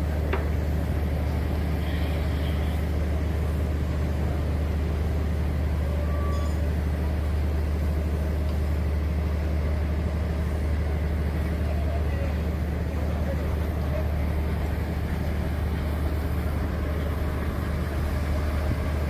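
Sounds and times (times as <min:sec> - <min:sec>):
ship engine drone: 0:00.0 - 0:19.0.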